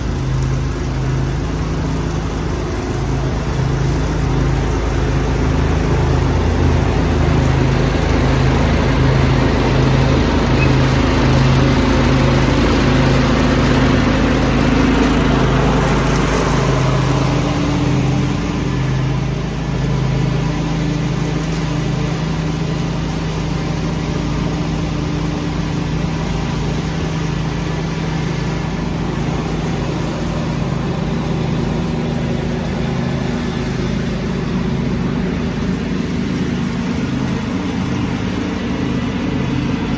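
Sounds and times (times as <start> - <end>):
lawn tractor engine running: 0.0 - 39.9
leaf vacuum rushing air: 0.0 - 39.9.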